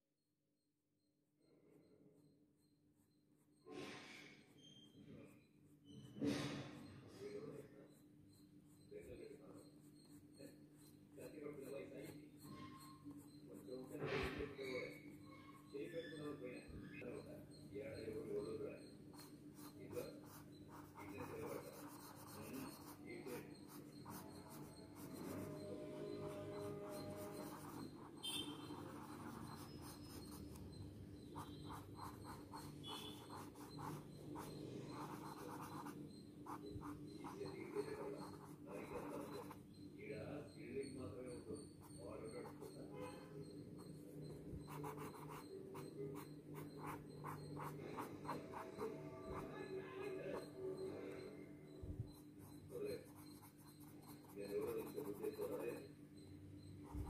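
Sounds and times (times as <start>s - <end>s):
pencil scratching on paper: 4.4s - 16.7s, 18.0s - 39.7s, 41.2s - 50.9s, 52.2s - 55.9s.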